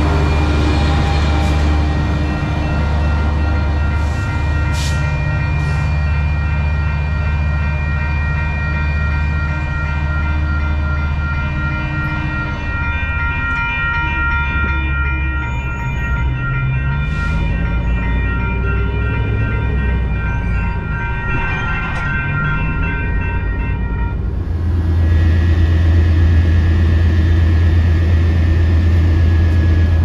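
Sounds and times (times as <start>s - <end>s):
crossing warning bell ringing: 0.0s - 30.0s
diesel locomotive running: 0.0s - 30.0s.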